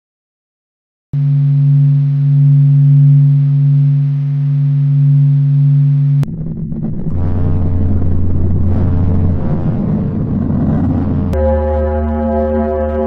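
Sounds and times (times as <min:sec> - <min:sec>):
deep droning hum: 0:01.2 - 0:13.0.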